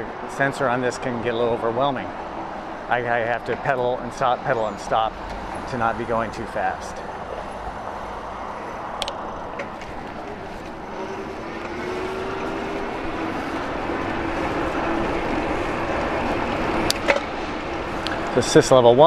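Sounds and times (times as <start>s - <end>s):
thin steady whine: 0.0s - 19.0s
wind and tyre noise: 0.0s - 19.0s.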